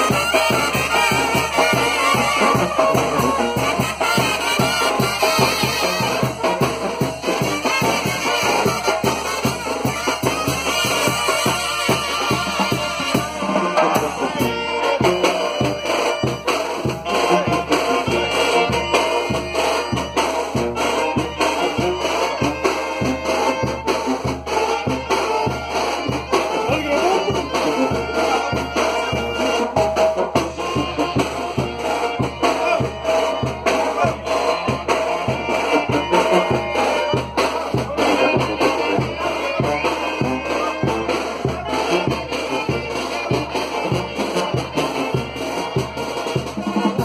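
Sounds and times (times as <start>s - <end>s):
brass band playing: 0.0s - 47.0s
trumpets and trombones: 0.0s - 47.0s.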